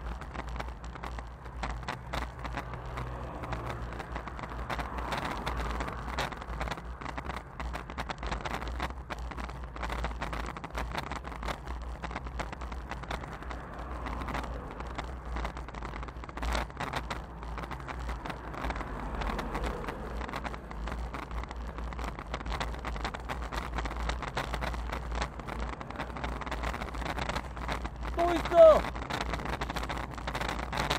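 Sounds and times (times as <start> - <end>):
small crackles: 0.0 - 30.9.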